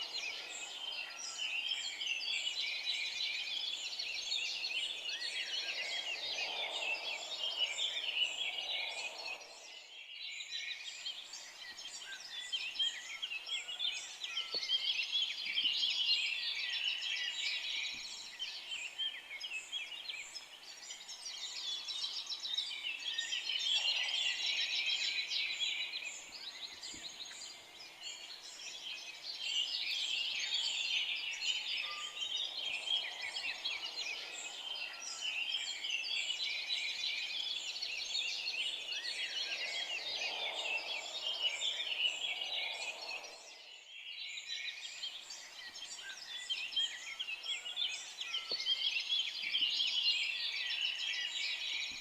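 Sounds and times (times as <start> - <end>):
chorus of songbirds: 0.0 - 52.0.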